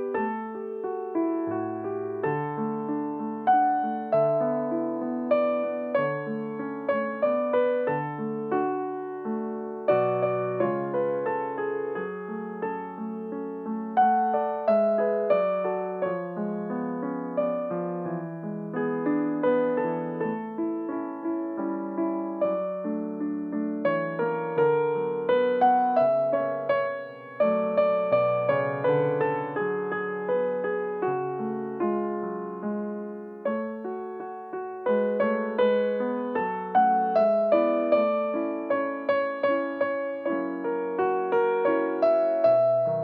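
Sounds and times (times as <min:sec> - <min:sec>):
piano chords and melody: 0:00.0 - 0:43.0.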